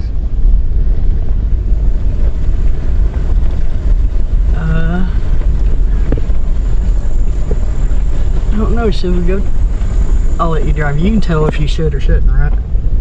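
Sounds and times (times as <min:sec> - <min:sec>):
vehicle engine rumble from cabin: 0:00.0 - 0:13.0
wind buffeting on microphone: 0:00.0 - 0:13.0.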